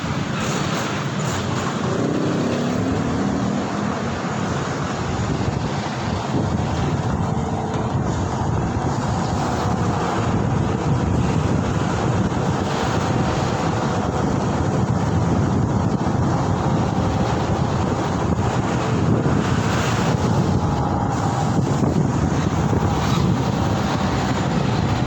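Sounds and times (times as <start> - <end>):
road and vehicle noise: 0.0 - 25.0
wind buffeting microphone: 0.0 - 25.0.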